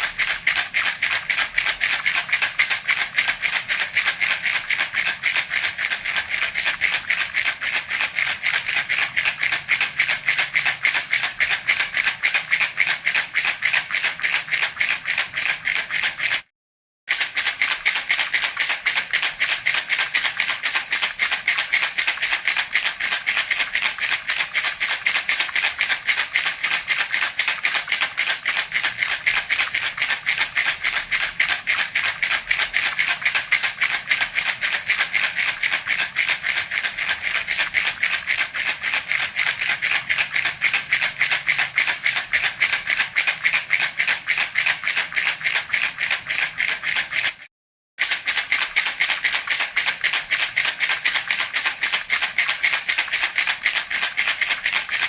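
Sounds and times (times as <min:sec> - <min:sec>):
baby rattle shaken: 0:00.0 - 0:16.5, 0:17.1 - 0:55.0.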